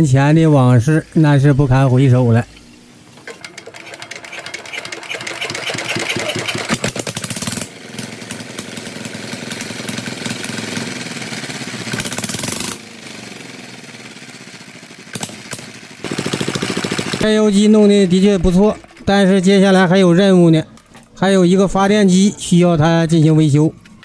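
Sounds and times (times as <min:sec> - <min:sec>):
diesel engine starting and running: 0:03.0 - 0:24.0.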